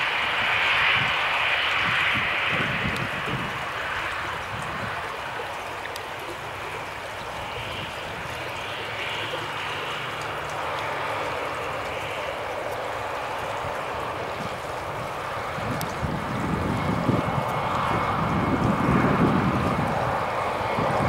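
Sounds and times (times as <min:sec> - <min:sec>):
jet engines hissing: 0:00.0 - 0:21.0.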